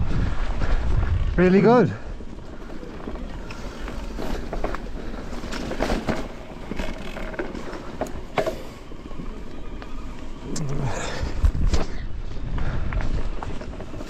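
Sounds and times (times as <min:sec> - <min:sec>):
bike tyre rumble on rocks: 0:00.0 - 0:14.0
bike rattling and clicking: 0:00.1 - 0:14.0.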